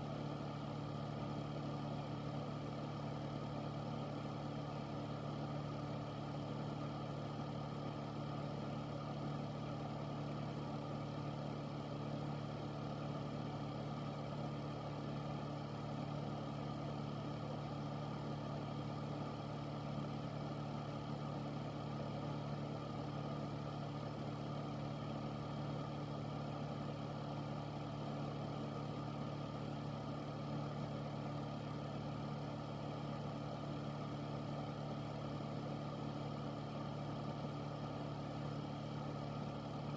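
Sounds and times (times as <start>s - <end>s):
air purifier running: 0.0s - 39.9s.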